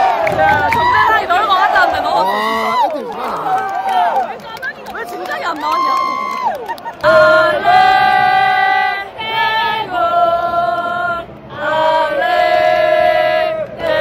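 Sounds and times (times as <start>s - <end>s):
crowd chanting: 0.0s - 4.3s, 7.0s - 14.0s.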